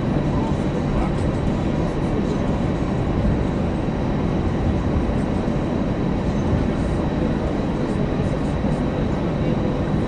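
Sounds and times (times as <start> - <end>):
jet engine rumble: 0.0 - 10.0.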